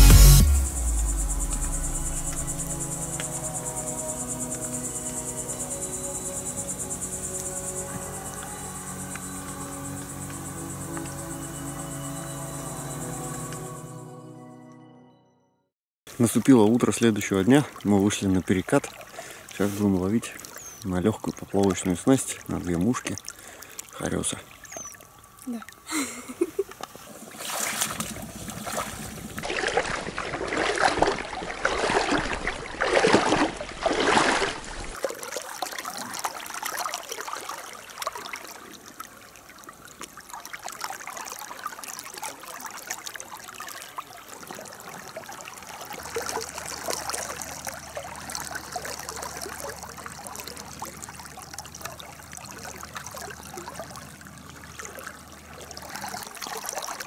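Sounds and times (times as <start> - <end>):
river water babbling: 0.0 - 14.1, 16.1 - 57.0.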